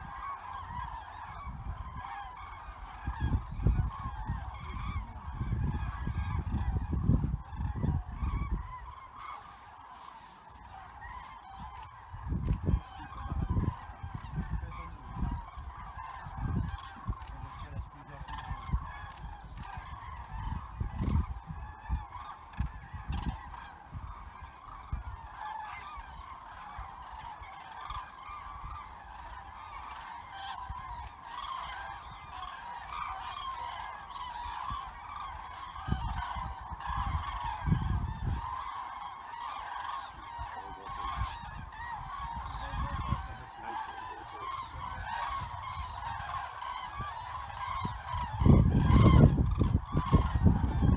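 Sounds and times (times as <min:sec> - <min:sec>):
cranes trumpeting calls: 0:00.0 - 0:50.9.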